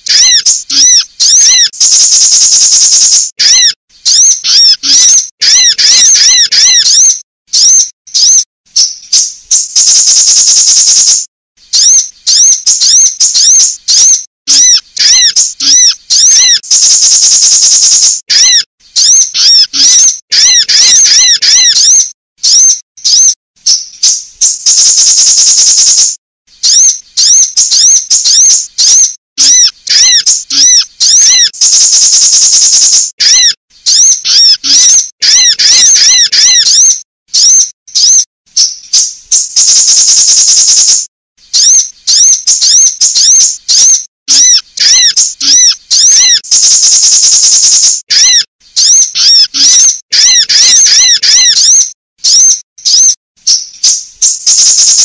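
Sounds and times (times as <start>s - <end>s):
buzzy high bird trill: 0.0s - 55.0s
high bird chirps: 0.0s - 55.0s.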